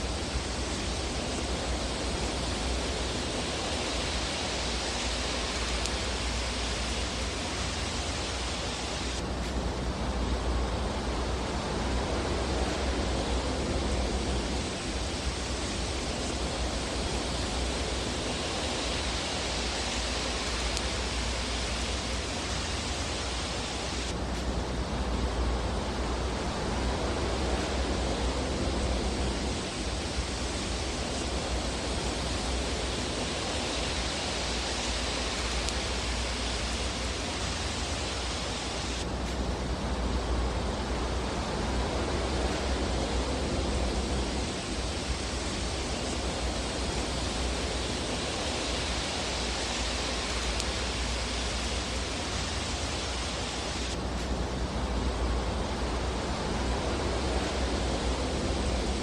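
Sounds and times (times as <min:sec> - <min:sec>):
fire rushing hiss: 0:00.0 - 0:59.0.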